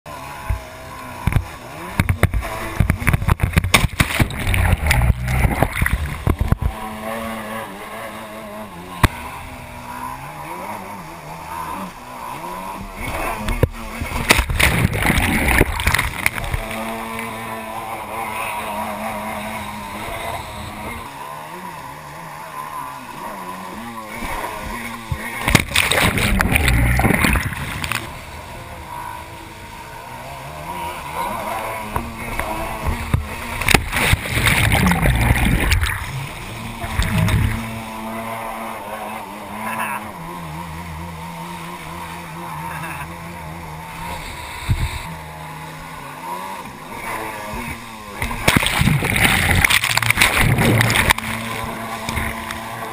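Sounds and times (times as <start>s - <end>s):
jet ski engine revving: 0.0s - 52.9s
water churning and splashing: 0.1s - 52.9s.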